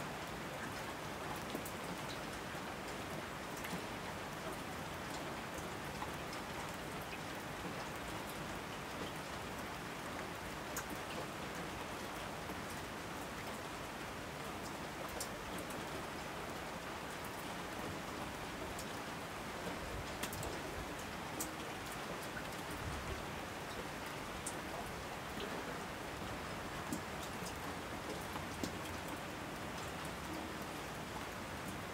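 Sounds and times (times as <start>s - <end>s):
steady rain hissing: 0.0s - 31.9s.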